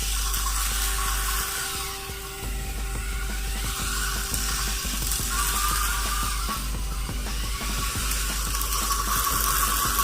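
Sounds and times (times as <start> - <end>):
music: 0.0 - 10.0
toy train motor whirring: 0.0 - 10.0
toy train wheels clicking: 0.0 - 10.0.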